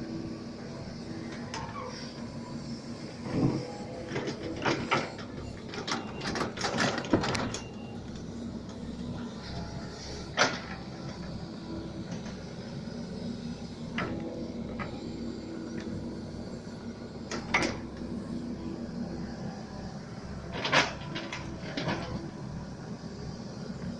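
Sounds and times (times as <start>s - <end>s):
excavator engine hum: 0.0s - 23.9s.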